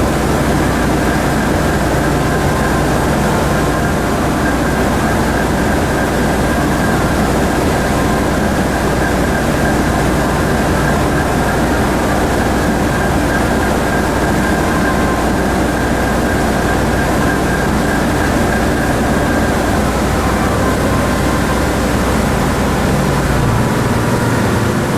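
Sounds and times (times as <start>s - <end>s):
ferry engine drone: 0.0s - 24.9s
rushing water noise: 0.0s - 24.9s.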